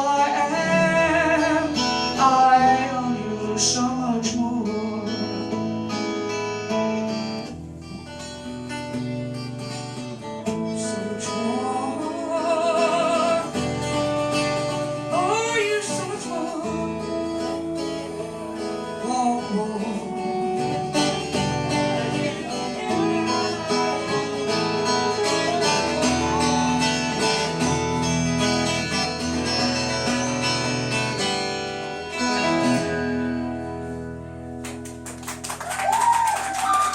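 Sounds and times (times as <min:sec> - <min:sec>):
acoustic guitar country song: 0:00.0 - 0:35.5.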